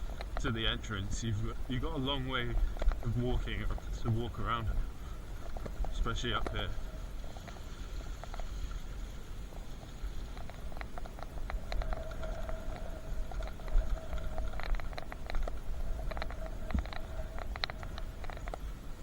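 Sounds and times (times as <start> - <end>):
bicycle being ridden: 0.0 - 19.0
steady whine: 0.0 - 19.0
wind rumbling on microphone: 0.0 - 19.0.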